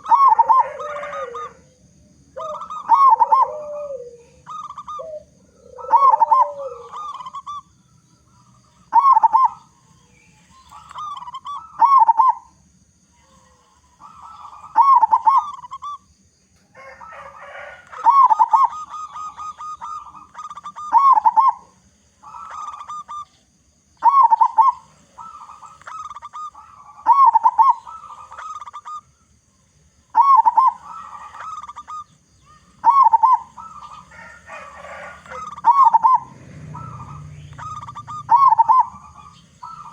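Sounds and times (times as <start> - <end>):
dove cooing: 0.0 - 16.1, 16.7 - 29.3, 29.9 - 39.9.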